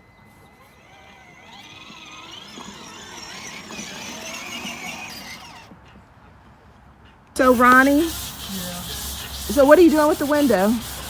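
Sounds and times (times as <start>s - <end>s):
squealing of glass being wet sanded: 0.3s - 5.7s, 7.4s - 11.0s.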